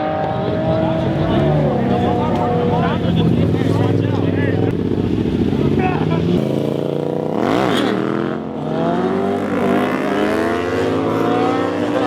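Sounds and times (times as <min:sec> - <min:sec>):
car engine revving and accelerating: 0:00.0 - 0:12.0.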